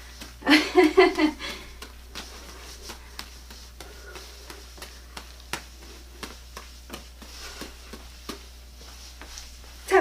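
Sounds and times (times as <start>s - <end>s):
juggling props slapping into hands: 0.0s - 10.0s
room hum: 0.0s - 10.0s.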